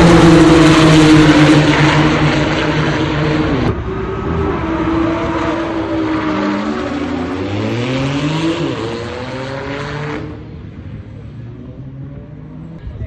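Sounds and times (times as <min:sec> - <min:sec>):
car engine at full throttle: 0:00.0 - 0:12.9.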